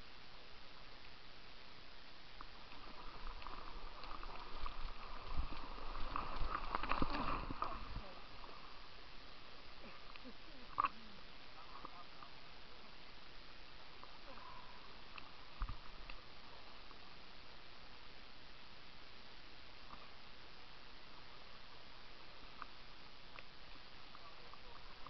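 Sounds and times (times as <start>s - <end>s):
faint background hiss: 0.0s - 25.0s.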